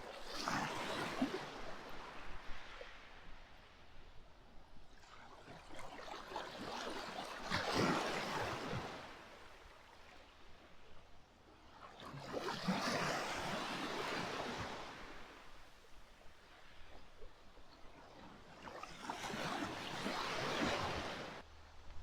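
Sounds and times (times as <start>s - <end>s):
small waves breaking on sand: 0.0s - 21.5s.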